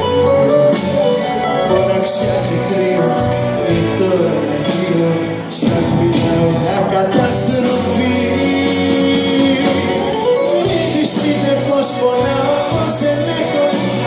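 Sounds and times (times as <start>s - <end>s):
live band music: 0.0s - 14.0s
man singing: 0.4s - 14.0s.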